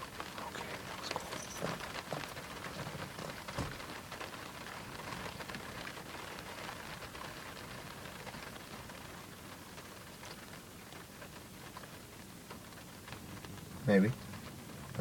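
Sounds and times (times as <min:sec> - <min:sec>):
rain pattering on a car roof: 0:00.0 - 0:15.0.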